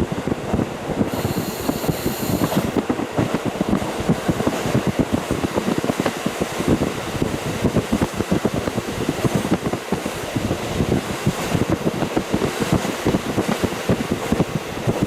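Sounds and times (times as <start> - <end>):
train wheels rattling on rails: 0.0 - 15.0
air rushing through window: 0.3 - 13.3.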